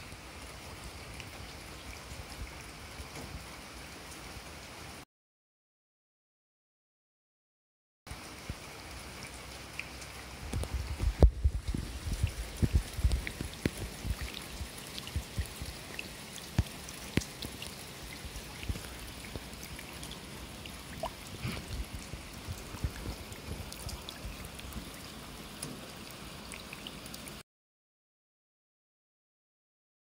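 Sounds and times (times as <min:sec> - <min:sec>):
rain on wet pavement: 0:00.0 - 0:05.0, 0:08.1 - 0:27.4
raindrops splashing in puddles: 0:00.0 - 0:05.0, 0:08.1 - 0:27.4.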